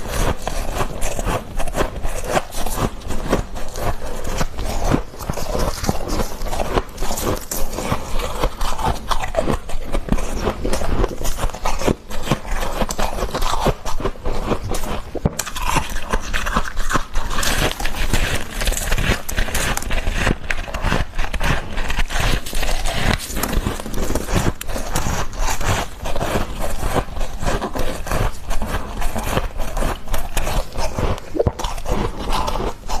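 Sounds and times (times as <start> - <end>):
freezer frost being scraped: 0.0 - 33.0.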